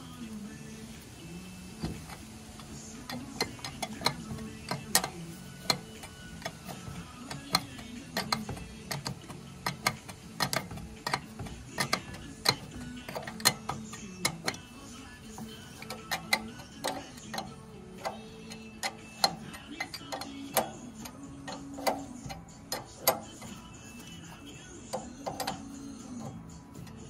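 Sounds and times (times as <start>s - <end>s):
wrench clicking on metal nuts: 1.8s - 27.0s.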